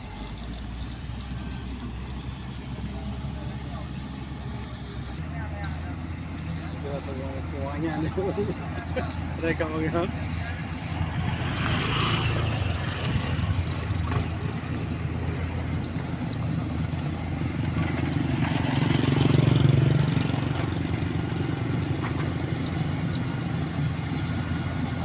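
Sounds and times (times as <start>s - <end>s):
grader diesel engine running: 0.0s - 25.0s.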